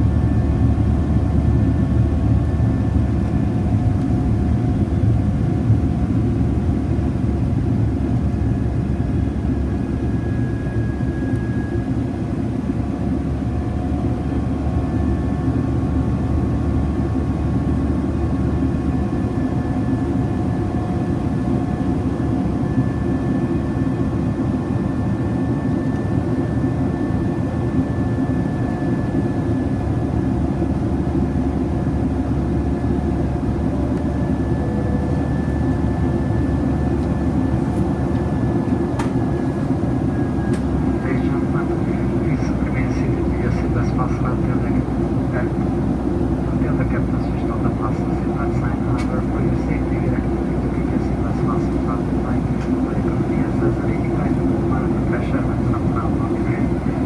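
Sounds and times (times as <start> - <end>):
faint engine whine: 0.0 - 57.0
jet engine and airflow rumble: 0.0 - 57.0.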